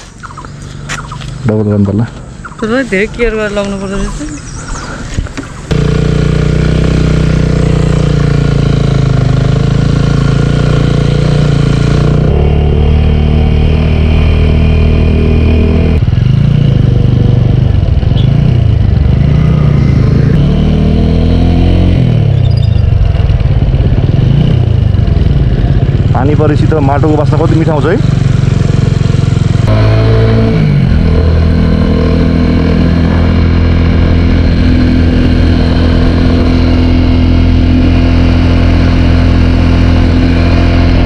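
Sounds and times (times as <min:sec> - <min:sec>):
motorcycle engine revving: 0:05.5 - 0:41.0.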